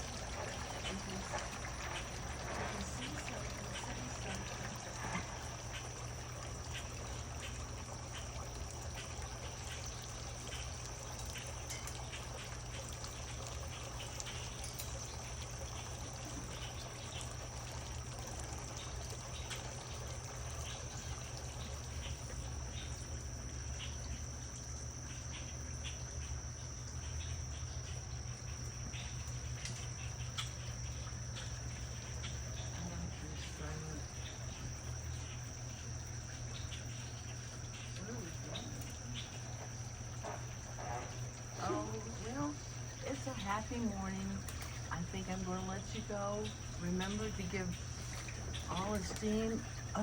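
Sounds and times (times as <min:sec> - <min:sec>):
fountain water trickling: 0:00.0 - 0:50.0
high-pitched insect trill: 0:00.0 - 0:50.0
low steady hum: 0:00.0 - 0:50.0.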